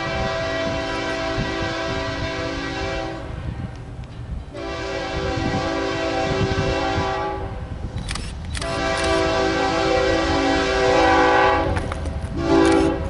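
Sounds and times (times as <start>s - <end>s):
train horn blasts: 0.0s - 3.5s, 4.5s - 7.8s, 8.6s - 13.0s
low rumble of moving train: 0.0s - 13.0s.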